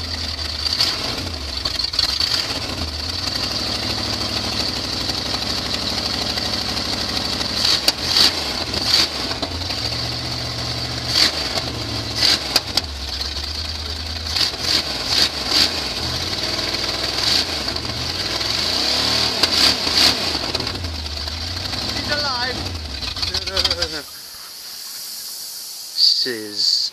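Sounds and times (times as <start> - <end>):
pickup engine revving: 0.0 - 24.4.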